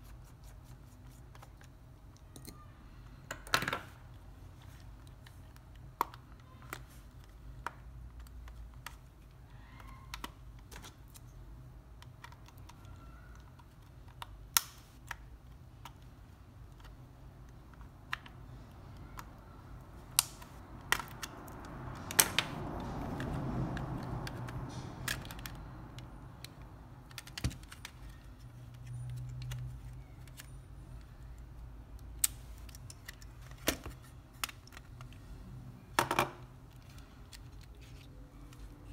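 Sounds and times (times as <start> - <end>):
controller handling noise: 3.7 - 35.4, 36.0 - 38.9.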